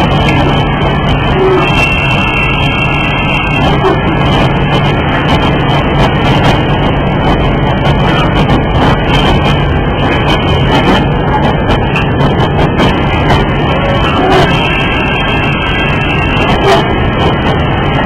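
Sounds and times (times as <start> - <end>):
machine running with low hum: 0.0 - 18.0.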